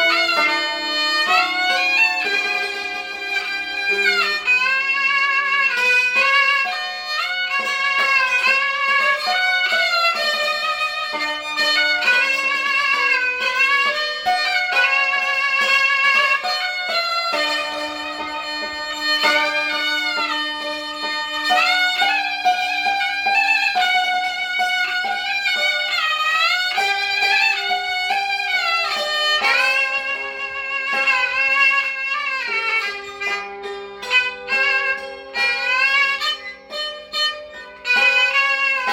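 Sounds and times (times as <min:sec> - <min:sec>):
hammered dulcimer: 0:00.0 - 0:38.9
two-string fiddle melody: 0:00.0 - 0:38.9.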